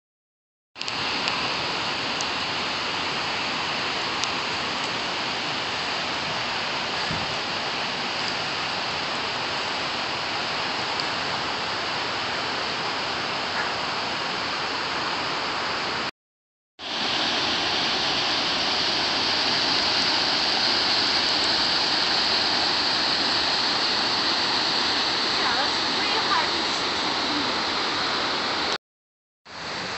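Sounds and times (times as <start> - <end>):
rushing water: 0.8 - 16.1, 16.8 - 28.8, 29.5 - 29.9.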